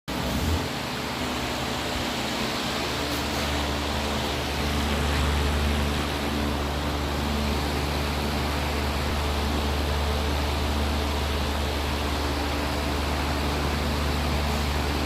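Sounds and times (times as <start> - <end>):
steady machine hum: 0.1 - 15.0.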